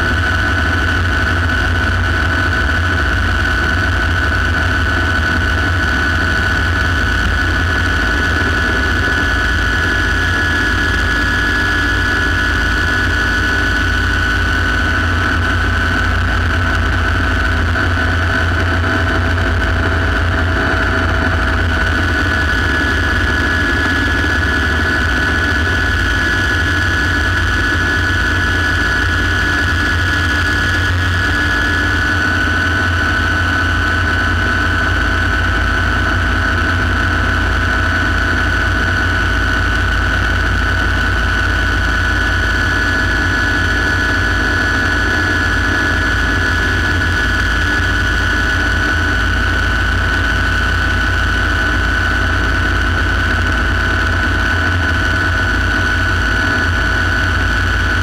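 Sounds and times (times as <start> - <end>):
helicopter low rumble: 0.0 - 58.0
helicopter turbine whine: 0.0 - 58.0.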